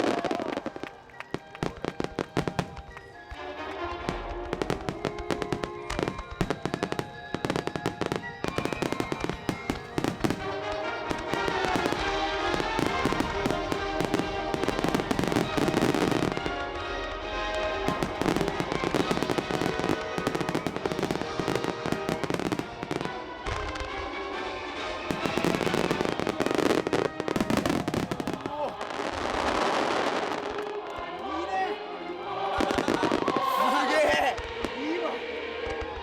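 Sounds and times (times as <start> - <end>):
fireworks bursting and crackling: 0.0 - 36.0
music with held melodic tones: 0.0 - 36.0.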